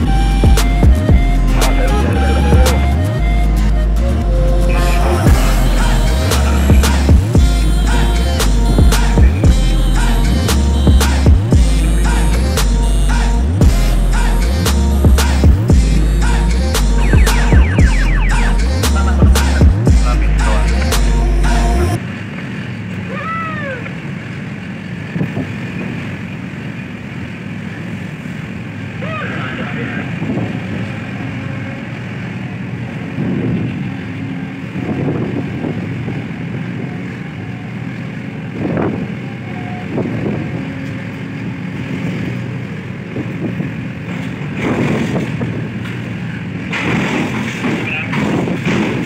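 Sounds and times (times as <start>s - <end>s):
heavy machinery drone: 0.0s - 49.0s.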